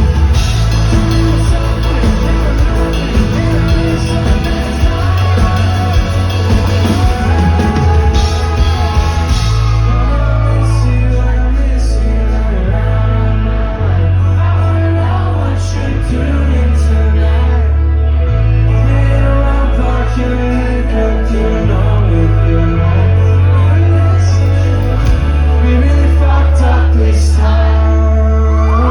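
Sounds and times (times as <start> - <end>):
live pop rock band: 0.0 - 28.9
person singing: 0.0 - 28.9.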